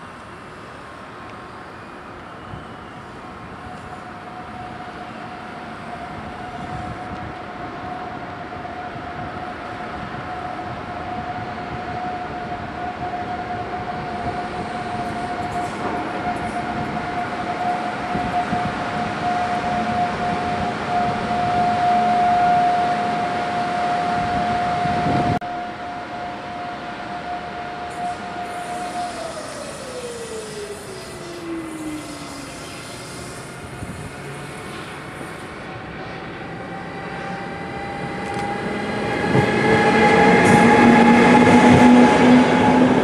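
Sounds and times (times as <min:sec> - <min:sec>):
train high whine: 0:00.0 - 0:43.0
train rumble: 0:00.0 - 0:43.0.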